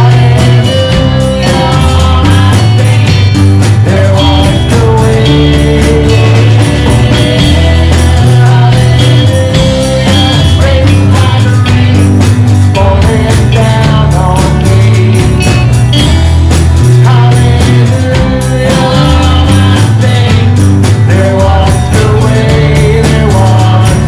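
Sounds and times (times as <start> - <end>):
live band playing: 0.0 - 24.0
person singing: 0.0 - 24.0
tambourine: 0.0 - 24.0.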